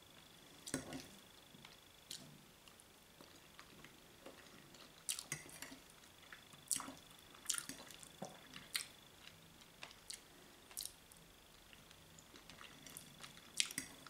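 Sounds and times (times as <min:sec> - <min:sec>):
person chewing food: 0:00.6 - 0:14.0.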